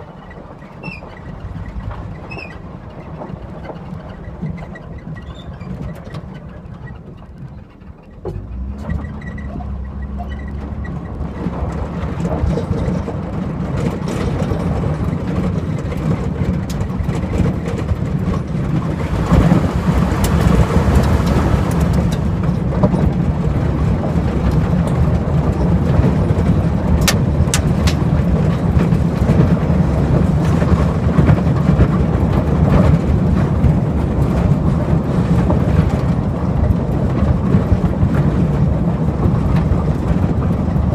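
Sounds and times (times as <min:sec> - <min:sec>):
pickup truck engine: 0:00.0 - 0:40.9
tyre and wind noise: 0:00.0 - 0:40.9.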